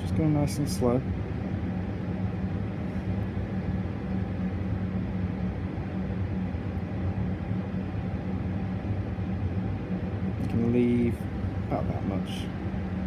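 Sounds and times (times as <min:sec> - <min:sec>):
blower fan humming: 0:00.0 - 0:13.0.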